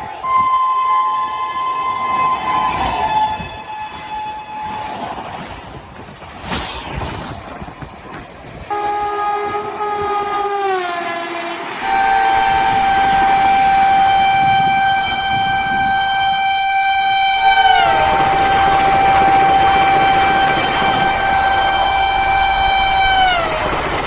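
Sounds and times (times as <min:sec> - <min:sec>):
electric locomotive horn blasts: 0:00.2 - 0:05.4, 0:08.7 - 0:24.0.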